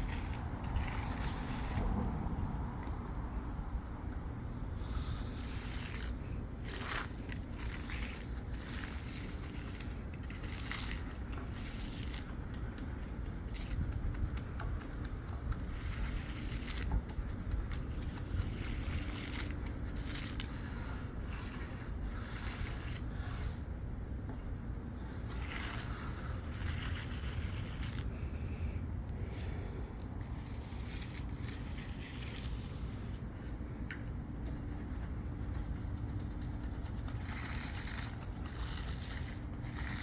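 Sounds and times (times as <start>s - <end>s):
tool scraping across concrete: 0.0s - 3.6s, 4.7s - 23.7s, 24.3s - 28.4s, 29.2s - 40.0s
steady low rumble: 0.0s - 40.0s.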